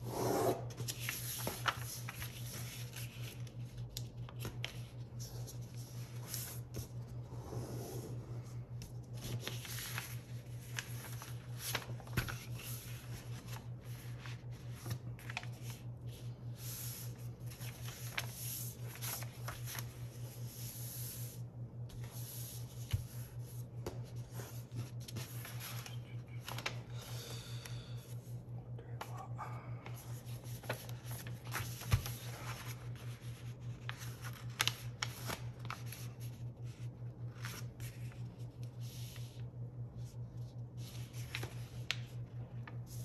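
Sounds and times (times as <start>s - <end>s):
low pulsing hum: 0.0s - 43.0s
paper rustling and creasing: 0.7s - 7.4s, 8.1s - 21.3s, 21.9s - 27.2s, 29.9s - 43.0s.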